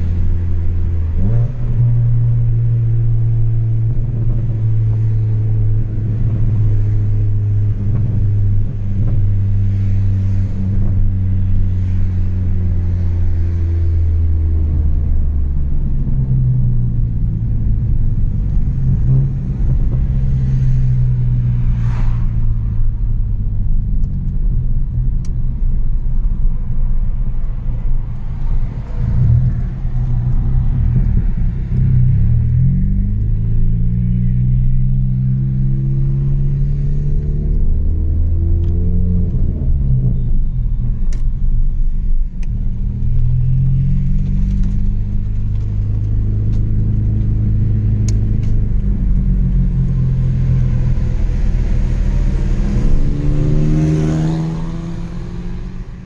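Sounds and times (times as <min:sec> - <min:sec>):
car exhaust drone: 0:00.0 - 0:56.0.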